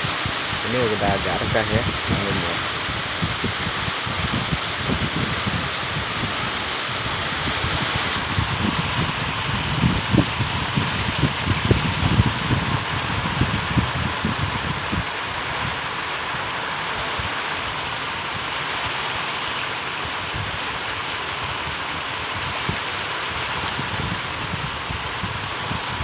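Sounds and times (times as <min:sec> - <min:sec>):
heavy rain falling: 0:00.0 - 0:26.0
wind gusts on microphone: 0:00.0 - 0:26.0.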